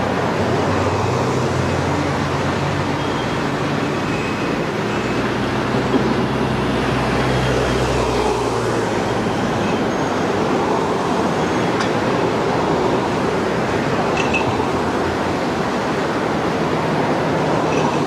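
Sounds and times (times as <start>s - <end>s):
train wheels on rails: 2.1s - 18.0s.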